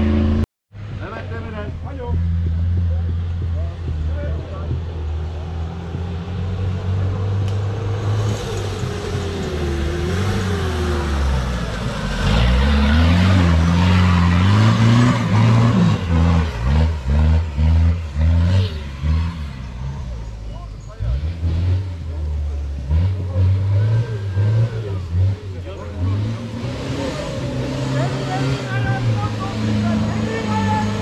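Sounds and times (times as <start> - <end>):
off-road engine revving: 0.0 - 31.0.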